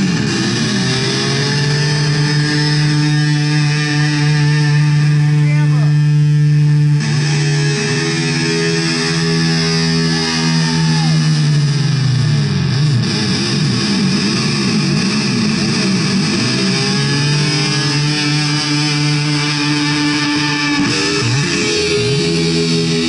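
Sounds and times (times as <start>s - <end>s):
distorted electric guitar: 0.0s - 23.0s.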